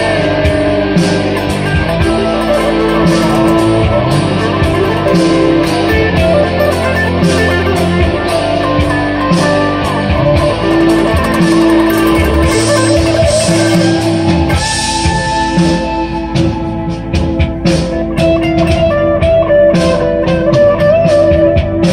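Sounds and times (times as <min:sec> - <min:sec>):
electric guitar picked notes: 0:00.0 - 0:21.9.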